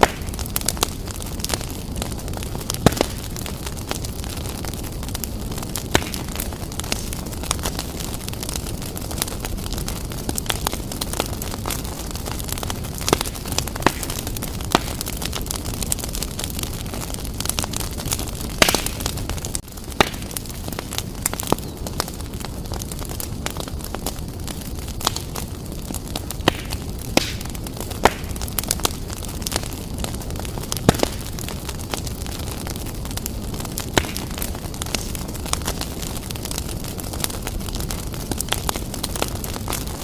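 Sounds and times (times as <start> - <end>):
burning wood crackling and popping: 0.0 - 40.0
low rumble of flames: 0.0 - 40.0.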